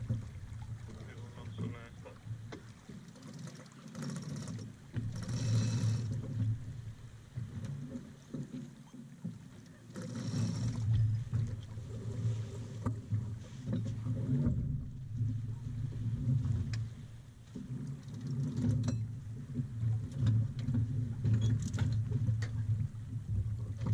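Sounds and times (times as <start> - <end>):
water rushing along boat hull: 0.0 - 23.9.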